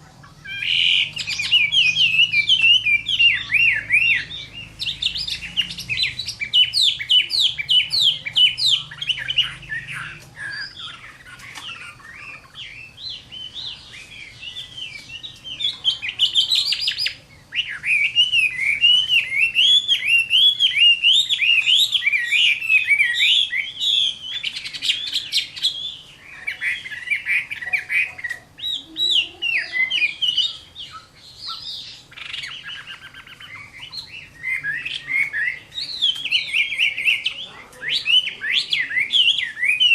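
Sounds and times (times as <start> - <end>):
bird singing whistled song: 0.4 - 39.9.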